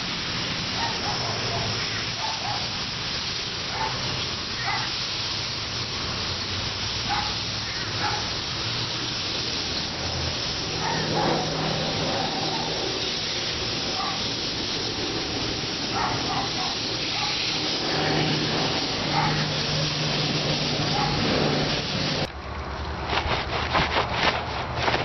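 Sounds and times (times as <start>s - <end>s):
water spraying from hose: 0.0s - 25.0s.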